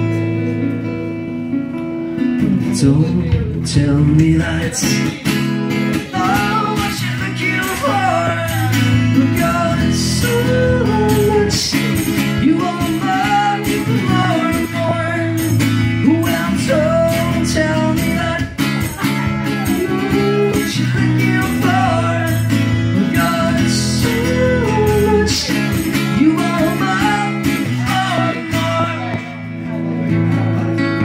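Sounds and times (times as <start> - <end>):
acoustic guitar strumming: 0.0 - 31.0
man singing: 2.3 - 30.2.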